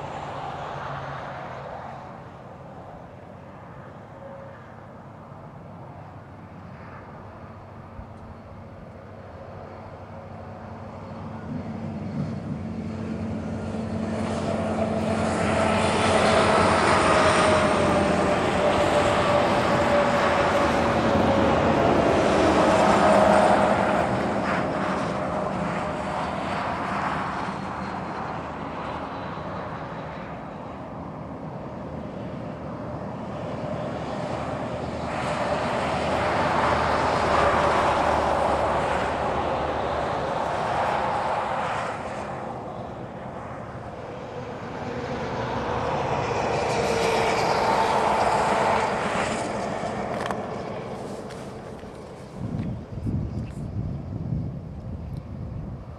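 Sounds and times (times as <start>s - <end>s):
passing engine drone: 0.0s - 55.9s.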